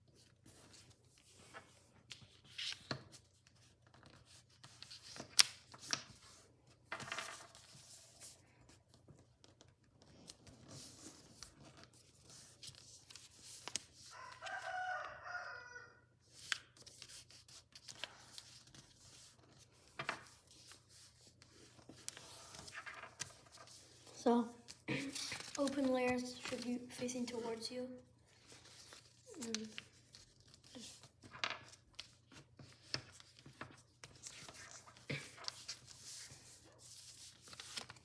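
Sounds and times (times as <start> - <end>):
paper being folded and creased: 0.1 - 14.7, 16.2 - 27.6, 28.2 - 38.0.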